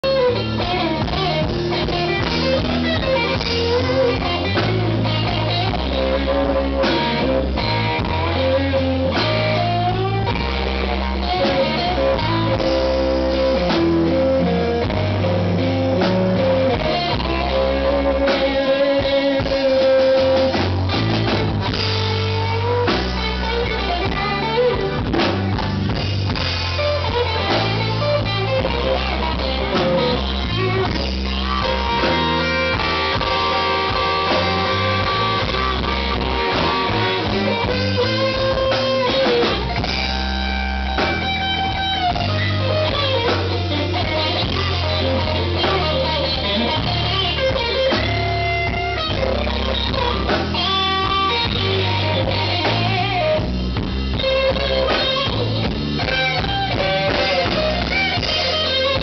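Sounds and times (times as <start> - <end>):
bass guitar: 0.0 - 59.0
drum kit: 0.0 - 59.0
electric guitar solo: 0.0 - 59.0.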